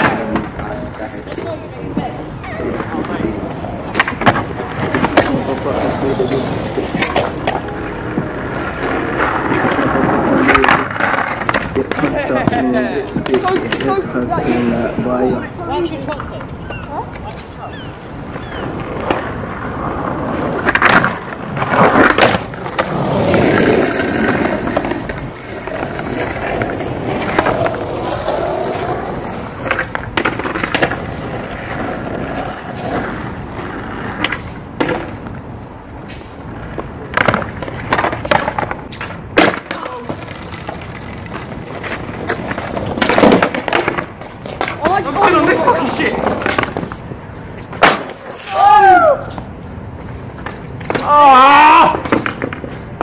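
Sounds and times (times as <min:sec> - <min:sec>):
skateboard clacking on ground: 0:00.0 - 0:17.6, 0:18.2 - 0:53.0
skateboard wheels rolling on concrete: 0:00.0 - 0:53.0.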